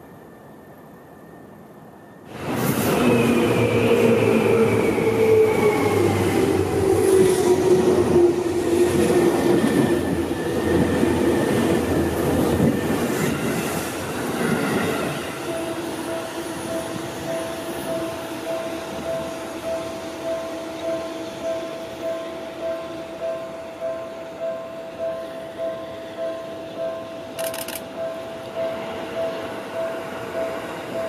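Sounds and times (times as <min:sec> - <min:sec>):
electric train passing with whine: 0:00.0 - 0:31.0
train approaching: 0:00.0 - 0:31.0.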